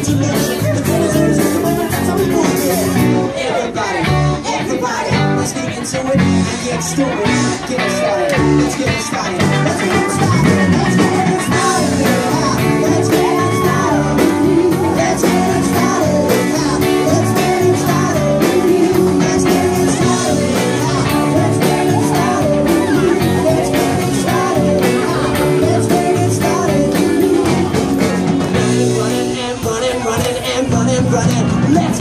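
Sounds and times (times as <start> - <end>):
steady drum beat: 0.0 - 3.2, 8.4 - 32.0
guitar: 0.0 - 32.0
person singing: 0.0 - 32.0.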